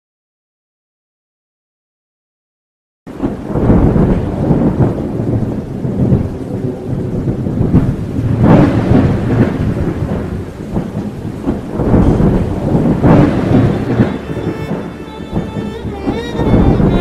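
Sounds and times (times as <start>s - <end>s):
rolling thunder: 3.1s - 17.0s
steady rain: 3.1s - 17.0s.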